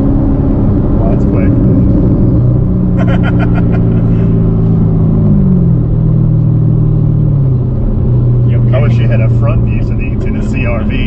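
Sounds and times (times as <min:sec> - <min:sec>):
car engine running in cabin: 0:00.0 - 0:11.0.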